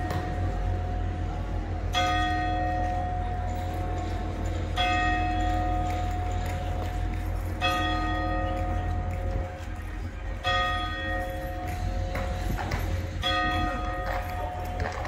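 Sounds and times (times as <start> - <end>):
steady low rumble: 0.0 - 15.0
tower clock bell striking: 0.0 - 15.0.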